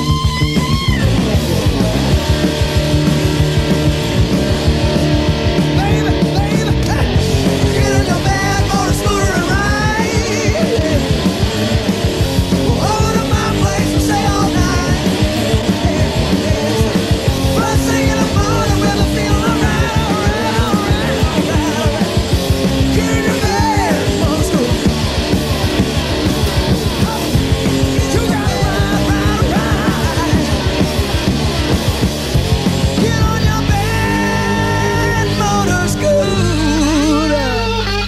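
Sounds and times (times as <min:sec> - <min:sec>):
electric guitar bending notes: 0:00.0 - 0:38.0
live rock band playing: 0:00.0 - 0:38.0.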